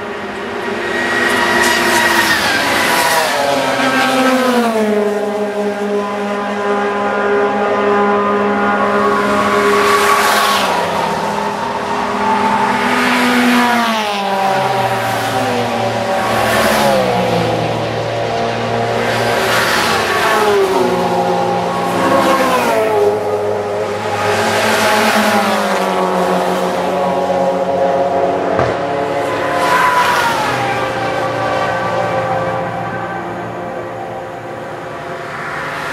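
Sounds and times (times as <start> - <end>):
race cars passing at speed: 0.0 - 35.9.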